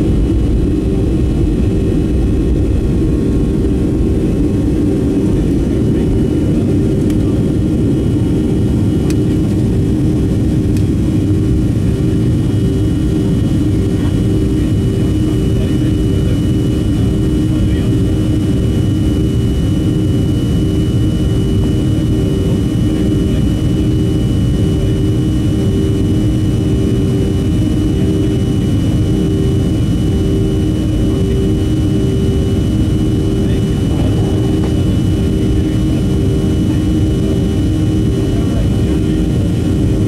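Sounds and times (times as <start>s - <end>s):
airplane cabin engine rumble: 0.0s - 40.0s
faint high whine: 0.0s - 40.0s
pulsing hum: 0.0s - 40.0s.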